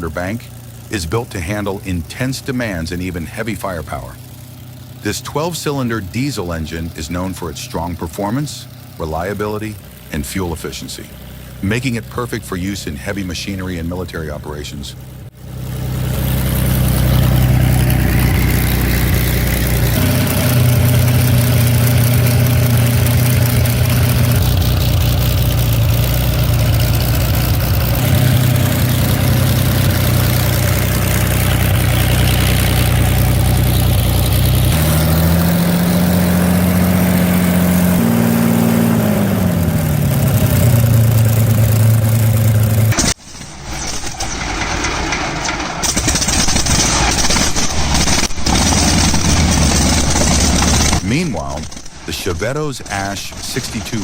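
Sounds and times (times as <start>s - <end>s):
aircraft engine running: 0.0s - 54.0s
different engine sound: 0.0s - 54.0s.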